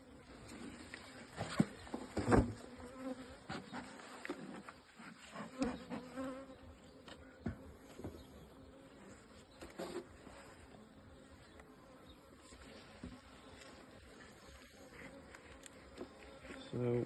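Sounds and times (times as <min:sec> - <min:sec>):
bees buzzing: 0:02.2 - 0:03.8, 0:04.8 - 0:17.0.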